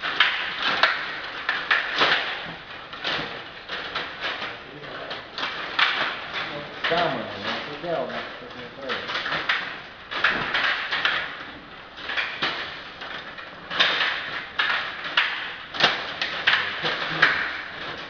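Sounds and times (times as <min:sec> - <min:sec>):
plastic players clacking: 0:00.0 - 0:18.0
plastic rods rattling: 0:00.0 - 0:18.0.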